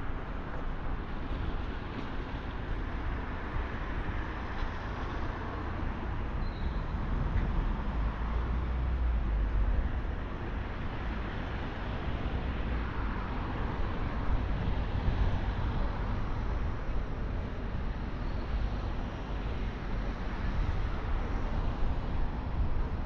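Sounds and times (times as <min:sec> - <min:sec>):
cars and vans passing: 0:00.0 - 0:23.0
low traffic rumble: 0:00.0 - 0:23.0.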